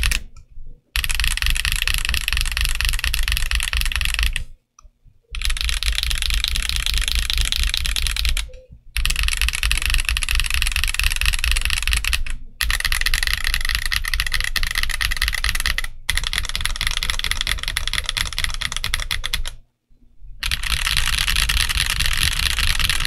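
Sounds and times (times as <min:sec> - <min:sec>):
mechanical keyboard typing: 0:00.0 - 0:00.4, 0:01.0 - 0:04.5, 0:05.3 - 0:19.6, 0:20.4 - 0:23.0.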